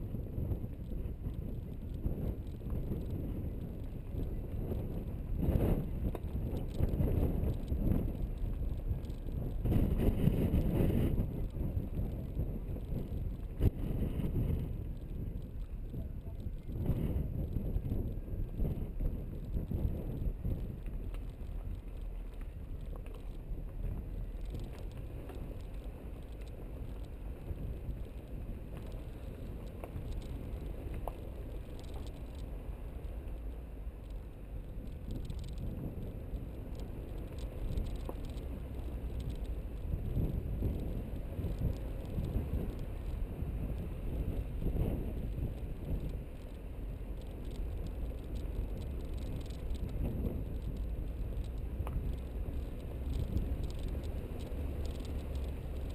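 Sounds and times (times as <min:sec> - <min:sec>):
grit crackling under wheels: 0:00.0 - 0:55.9.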